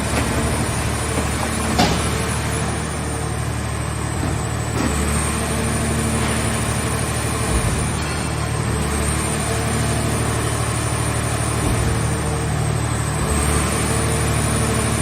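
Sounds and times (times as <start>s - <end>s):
car baler engine drone: 0.0s - 15.0s.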